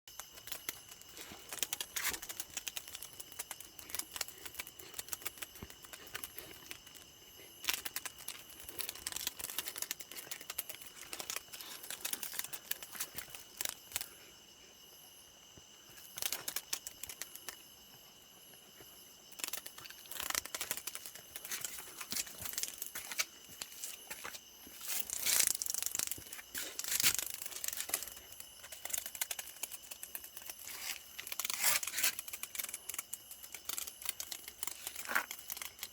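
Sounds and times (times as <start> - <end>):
cicada buzzing wings: 0.1 - 35.9.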